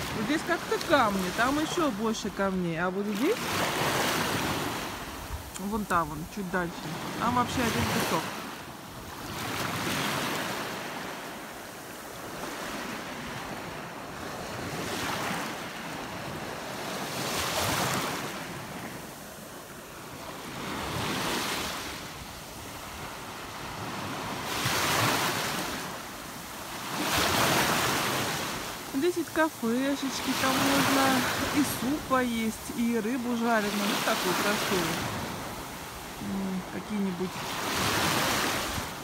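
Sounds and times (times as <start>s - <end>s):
small waves washing on shore: 0.0s - 39.0s.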